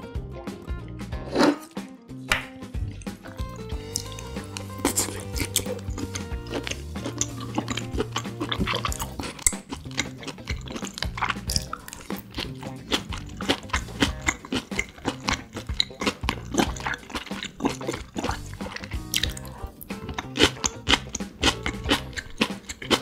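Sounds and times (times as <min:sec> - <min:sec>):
background music: 0:00.0 - 0:23.0
mouth clicks: 0:02.3 - 0:23.0
close chewing: 0:02.9 - 0:23.0.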